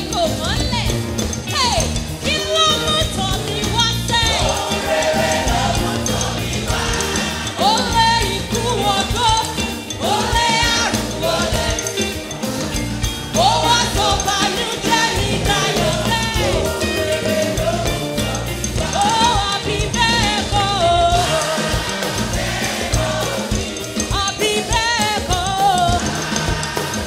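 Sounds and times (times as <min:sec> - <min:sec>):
band with drums: 0:00.0 - 0:27.0
singers and choir singing: 0:03.2 - 0:27.0.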